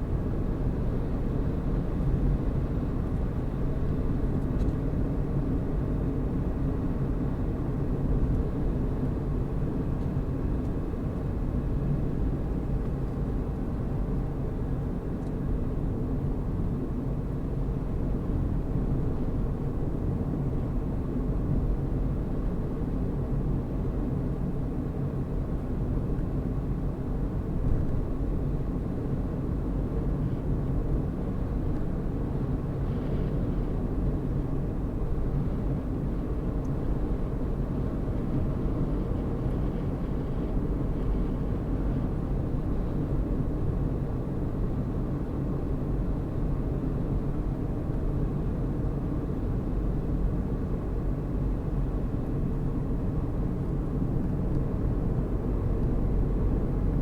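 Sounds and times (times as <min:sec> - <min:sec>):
vehicle engine hum: 0:00.0 - 0:57.0.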